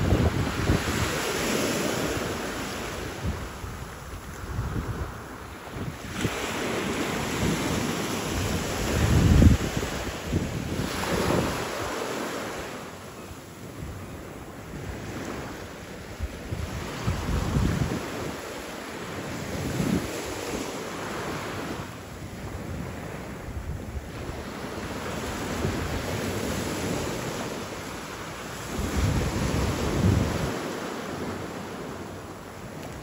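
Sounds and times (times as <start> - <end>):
wind rumbling on microphone: 0.0 - 12.2, 13.6 - 32.0
small waves washing on shore: 0.0 - 33.0.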